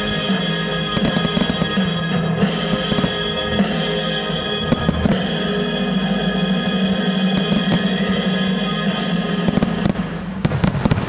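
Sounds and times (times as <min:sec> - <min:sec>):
fireworks bangs and crackles: 0:00.0 - 0:11.0
loud music with sustained chords: 0:00.0 - 0:11.0.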